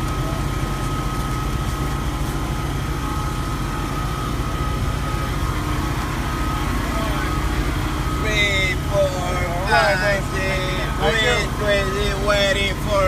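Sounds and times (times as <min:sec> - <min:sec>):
engine idling: 0:00.0 - 0:13.0
thin steady whine: 0:00.0 - 0:13.0.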